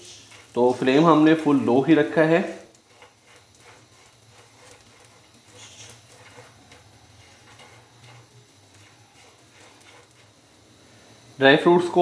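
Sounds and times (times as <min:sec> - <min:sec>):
spatula stirring in frying pan: 0:00.0 - 0:12.0.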